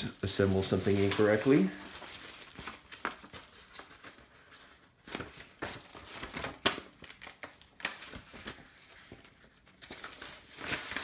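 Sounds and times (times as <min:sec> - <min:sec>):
paper crackling and rustling: 0:00.0 - 0:11.0.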